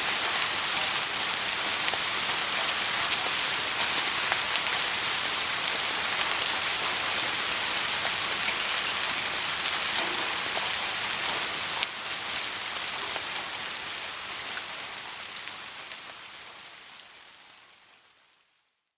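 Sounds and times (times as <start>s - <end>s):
hiss of rain: 0.0s - 18.9s.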